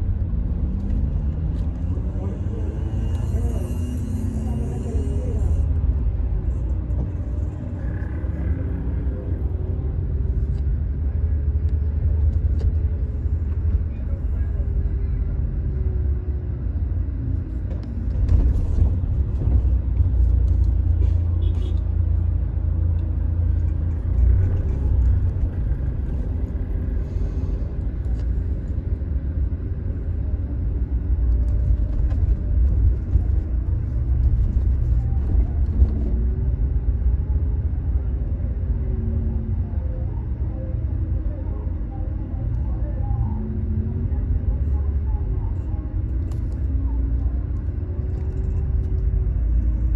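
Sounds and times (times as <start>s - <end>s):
car rumbling on road: 0.0s - 49.9s.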